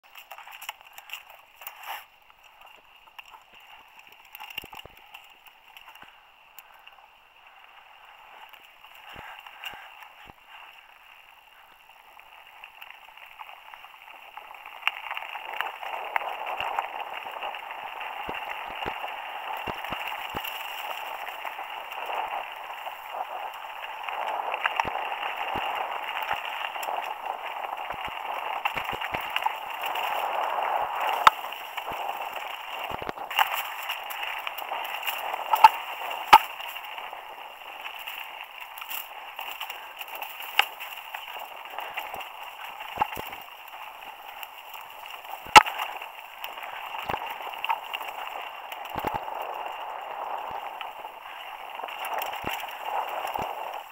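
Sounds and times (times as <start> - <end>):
bike knocking and rattling over bumps: 0.0 - 53.9
bike tyre noise on dirt: 0.0 - 53.9.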